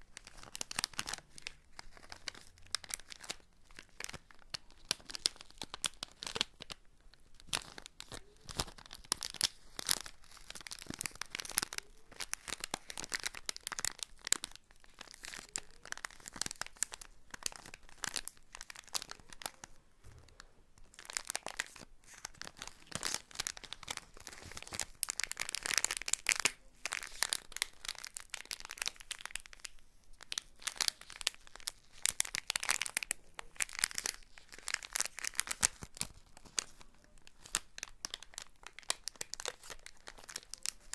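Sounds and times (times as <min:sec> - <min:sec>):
crinkly material rustling: 0:00.0 - 0:40.9.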